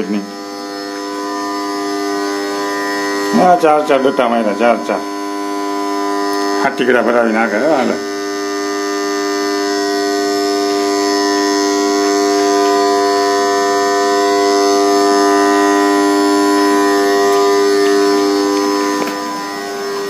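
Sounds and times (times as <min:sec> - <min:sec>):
electric pump motor humming: 0:00.0 - 0:20.0.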